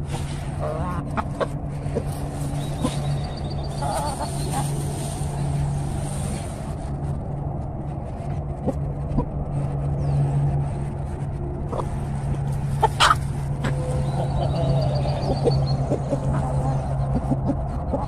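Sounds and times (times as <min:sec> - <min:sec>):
low hum: 0:00.0 - 0:18.0
chickens clucking: 0:00.1 - 0:06.8, 0:08.5 - 0:09.8, 0:11.0 - 0:18.0.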